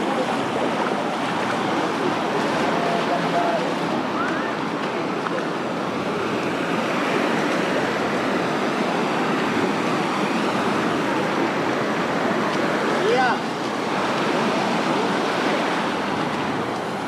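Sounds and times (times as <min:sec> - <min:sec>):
small waves breaking on shore: 0:00.0 - 0:17.0.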